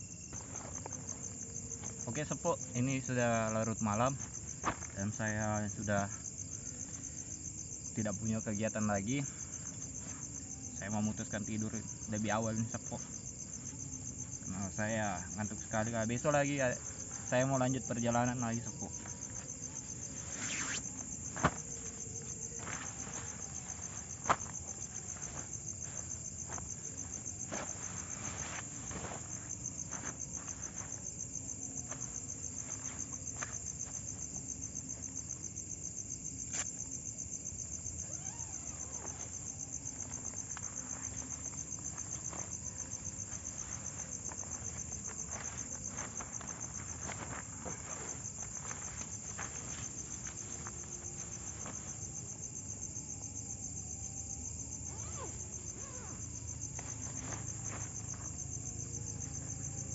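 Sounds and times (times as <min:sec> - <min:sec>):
night insects trilling: 0:00.0 - 0:59.9.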